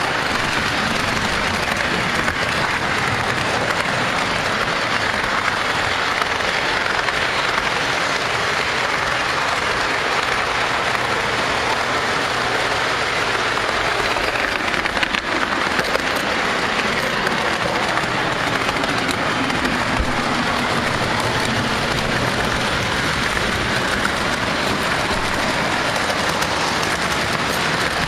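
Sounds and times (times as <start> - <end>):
sharp clicks over rail joints: 0.0 - 11.8, 13.2 - 28.0
model train wheels clattering on rails: 0.0 - 28.0.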